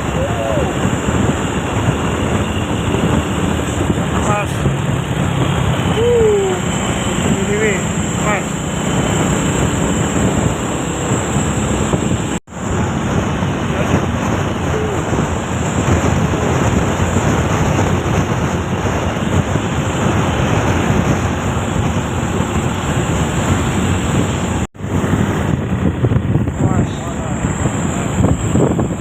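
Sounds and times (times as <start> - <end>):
road noise: 0.0 - 29.0
truck engine: 0.0 - 29.0
wind rushing over microphone: 0.0 - 29.0.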